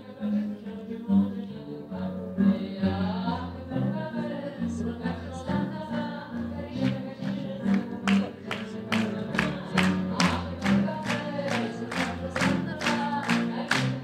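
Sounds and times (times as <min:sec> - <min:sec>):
grand piano: 0:00.0 - 0:14.0
woman singing: 0:00.0 - 0:14.0.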